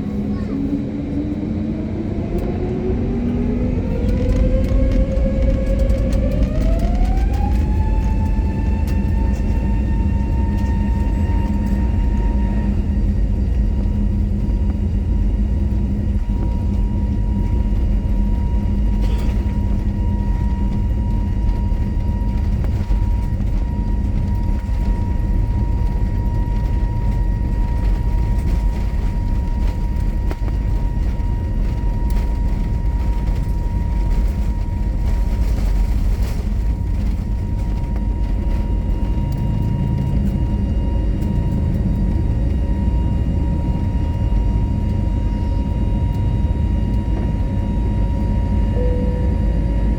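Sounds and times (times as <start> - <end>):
jet engines at takeoff in cabin: 0.0 - 49.9.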